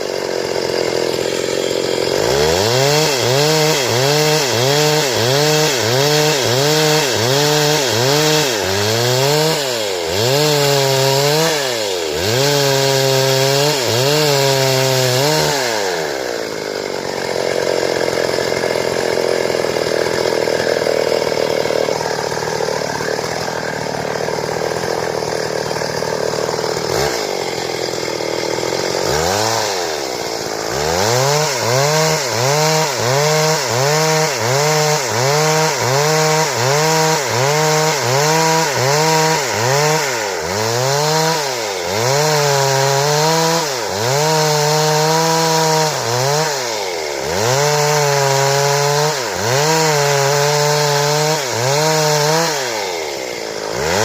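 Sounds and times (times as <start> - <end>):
chainsaw revving and cutting: 0.0 - 54.0.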